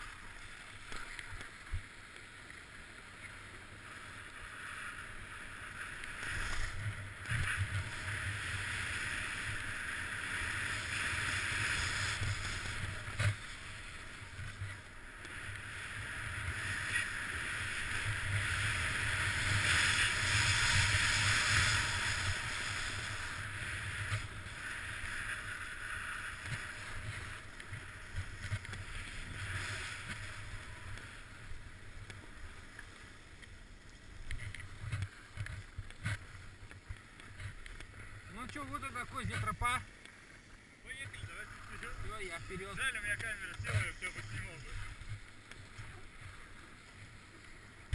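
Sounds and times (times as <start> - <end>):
skis hissing over snow: 0.0 - 47.9.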